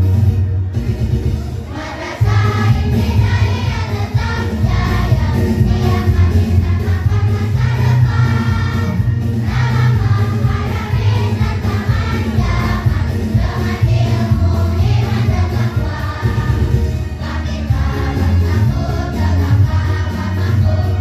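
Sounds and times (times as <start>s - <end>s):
amplified backing music: 0.0s - 21.0s
choir singing a march: 1.4s - 21.0s.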